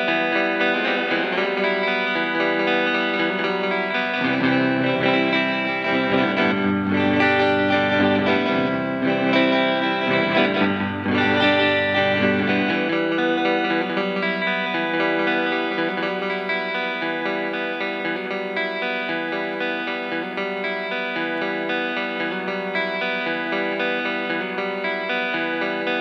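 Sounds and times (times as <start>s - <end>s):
electric guitar with echoing delay: 0.0s - 26.0s.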